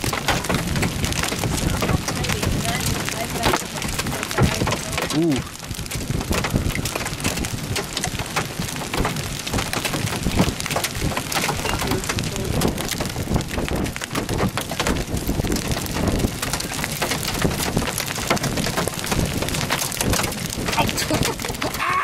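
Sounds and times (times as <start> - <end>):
hail clattering: 0.0 - 22.0.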